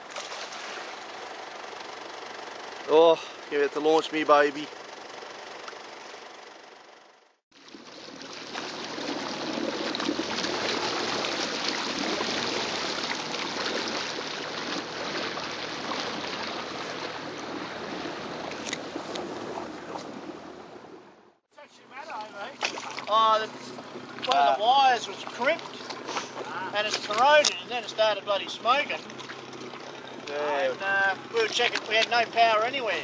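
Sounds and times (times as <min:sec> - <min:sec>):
water rushing along hull: 0:00.0 - 0:04.6, 0:07.5 - 0:33.0
jet ski engine hum: 0:00.0 - 0:33.0.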